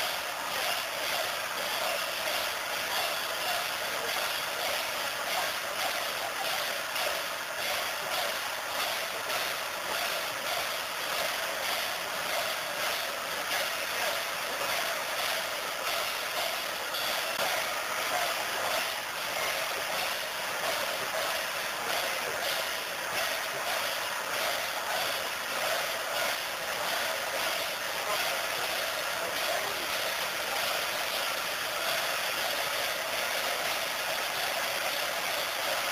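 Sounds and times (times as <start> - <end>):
dense crowd din: 0.0 - 35.9.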